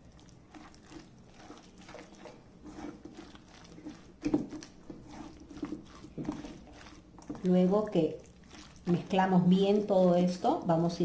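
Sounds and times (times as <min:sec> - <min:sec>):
spatula stirring wet food in bowl: 0:00.0 - 0:11.0.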